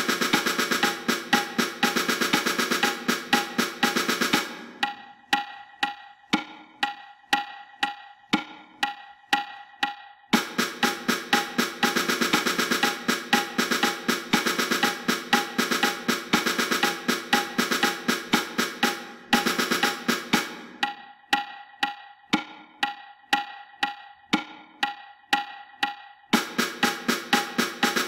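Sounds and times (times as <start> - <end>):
metronome clicking: 0.0 - 28.0
snare drum march pattern: 0.0 - 28.0.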